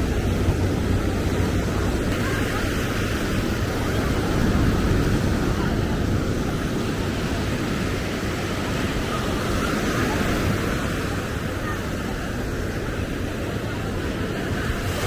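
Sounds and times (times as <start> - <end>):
passing traffic: 0.0 - 13.8
surf rumbling: 0.0 - 15.0
wind: 0.0 - 15.0.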